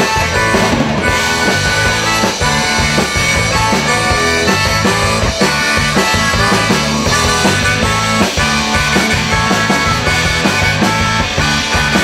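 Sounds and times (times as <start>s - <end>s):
live rock band playing: 0.0s - 12.0s
steady drum beat: 0.0s - 12.0s
sustained keyboard chords: 0.0s - 12.0s.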